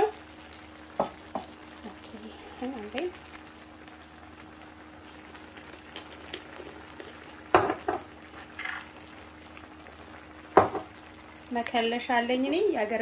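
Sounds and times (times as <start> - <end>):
stew simmering and sizzling: 0.0 - 13.0.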